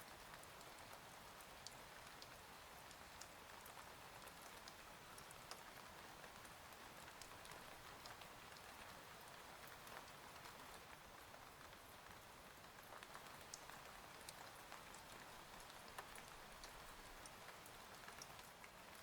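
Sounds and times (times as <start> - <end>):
quiet steady rain: 0.0 - 19.0.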